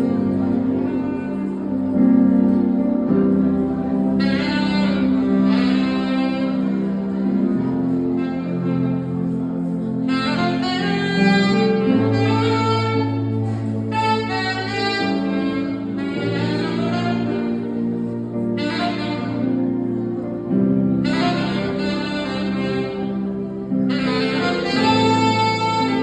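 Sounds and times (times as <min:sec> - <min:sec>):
saxophone slow melody: 0:00.0 - 0:26.0
sustained low accompaniment chords: 0:00.0 - 0:26.0.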